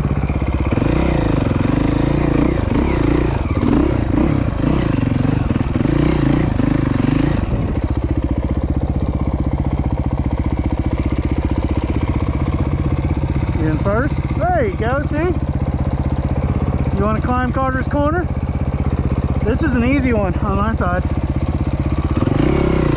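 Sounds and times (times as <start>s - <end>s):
dirt bike engine revving: 0.0s - 22.9s
motorcycle engine idling: 0.0s - 22.9s.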